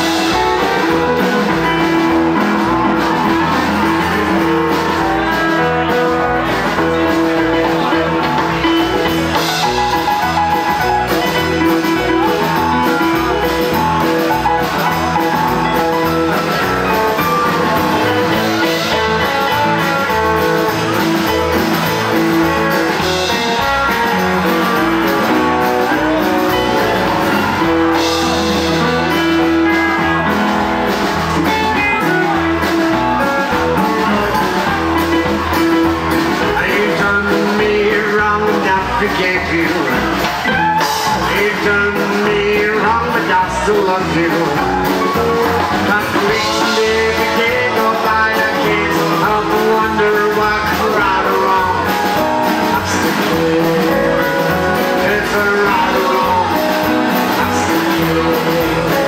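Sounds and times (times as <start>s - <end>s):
acoustic rhythm guitar: 0.0s - 59.0s
electric guitar: 0.0s - 59.0s
keyboard: 0.0s - 59.0s
upright double bass: 0.0s - 59.0s.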